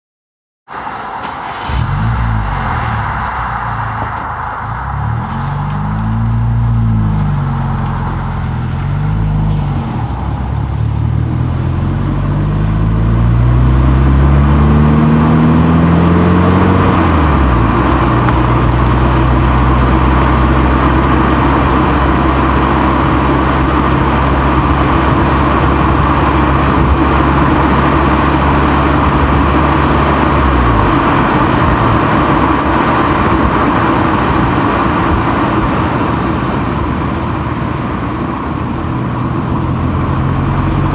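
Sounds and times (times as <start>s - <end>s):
car engine driving: 0.7s - 40.9s
tyres rushing on road: 0.7s - 40.9s.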